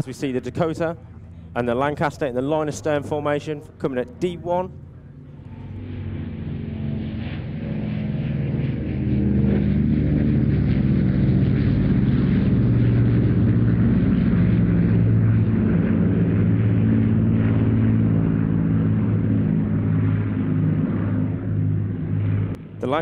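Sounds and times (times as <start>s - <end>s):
piston-engine aircraft drone: 0.0s - 23.0s.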